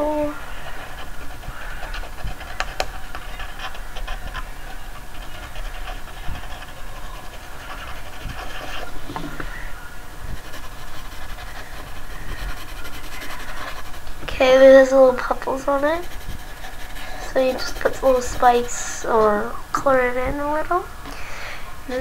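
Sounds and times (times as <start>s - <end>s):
drawing tool scratching paper: 0.5s - 9.5s, 10.2s - 19.4s.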